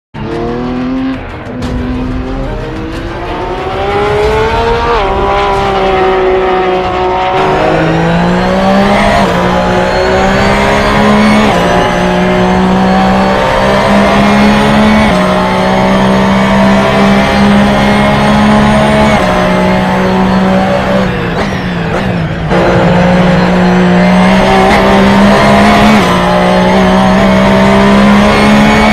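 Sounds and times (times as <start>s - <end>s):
race car engine revving: 0.2s - 28.9s.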